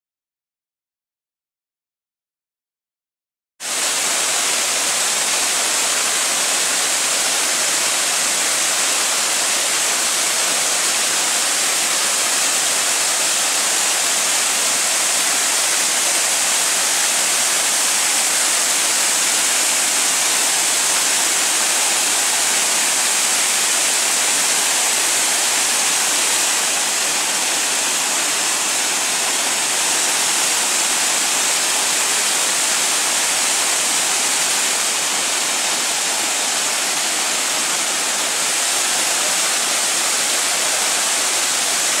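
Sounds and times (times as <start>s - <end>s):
waterfall splashing over rocks: 3.6s - 42.0s.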